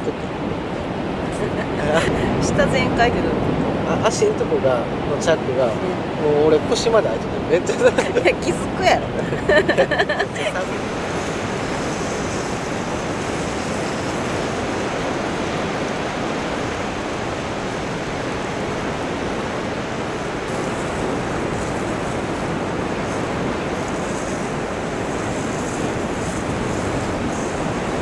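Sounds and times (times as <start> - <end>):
sea surf on shore: 0.0 - 28.0
wind: 0.0 - 28.0
wind buffeting microphone: 0.0 - 28.0.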